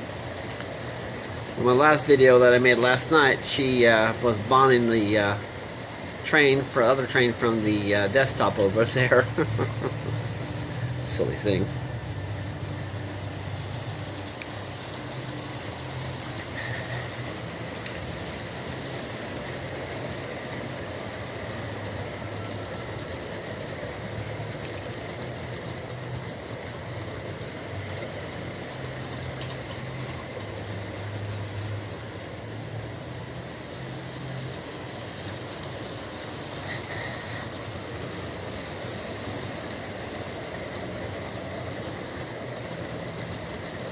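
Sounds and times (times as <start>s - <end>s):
model train motor hum: 0.0s - 43.9s
wheels rolling on rails: 0.0s - 43.9s.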